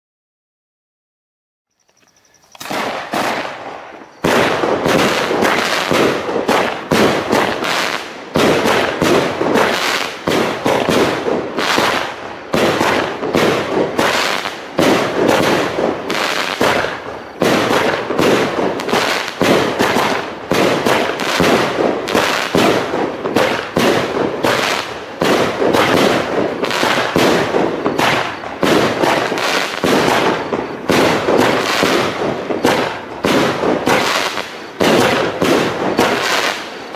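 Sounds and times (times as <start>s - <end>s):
fireworks launch thumps and bursts: 2.5s - 36.9s.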